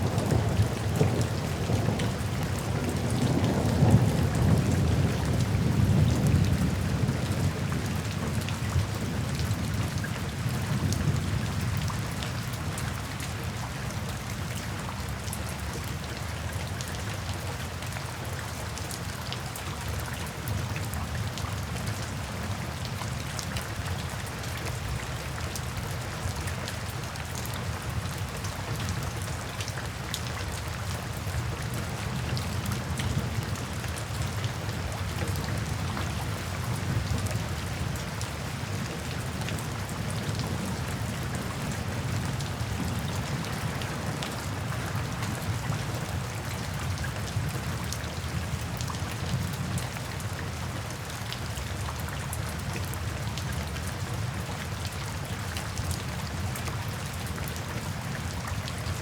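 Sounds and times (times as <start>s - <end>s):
heavy rain: 0.0s - 59.0s
raindrops ticking on a surface: 0.0s - 59.0s.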